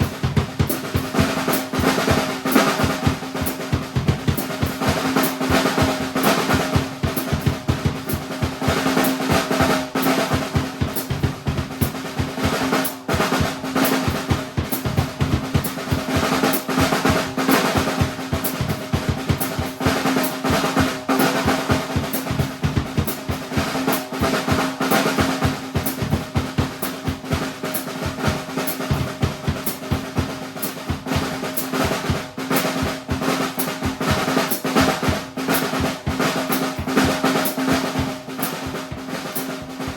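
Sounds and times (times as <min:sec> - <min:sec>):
drum kit groove: 0:00.0 - 0:39.9
snare and bass drum rolls: 0:00.0 - 0:39.9.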